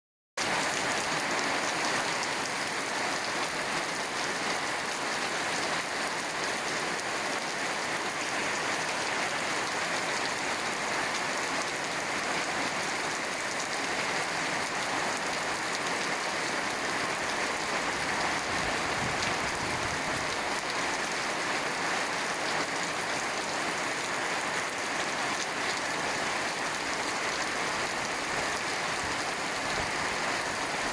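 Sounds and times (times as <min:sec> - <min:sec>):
steady rain falling: 0:00.4 - 0:30.9.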